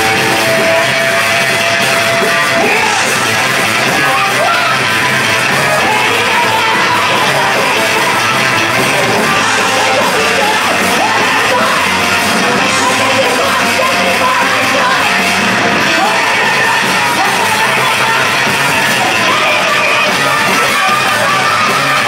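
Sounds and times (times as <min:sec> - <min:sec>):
drums: 0:00.0 - 0:22.0
electric guitar: 0:00.0 - 0:22.0.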